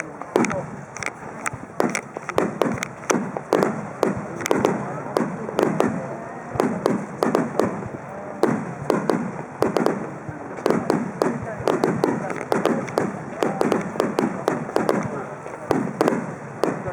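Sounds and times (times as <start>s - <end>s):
fireworks bursting with echo: 0.0s - 16.9s.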